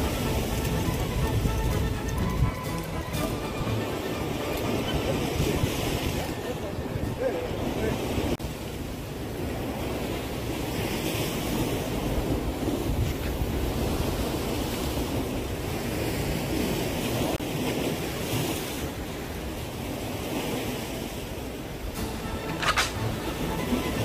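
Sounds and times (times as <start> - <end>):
waves breaking on concrete: 0.0 - 24.0
wind buffeting microphone: 0.0 - 24.0.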